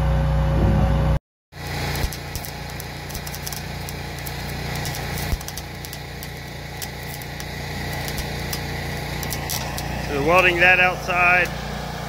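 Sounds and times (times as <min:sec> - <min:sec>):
engine running: 0:00.4 - 0:12.0
arc welding crackle: 0:01.5 - 0:12.0.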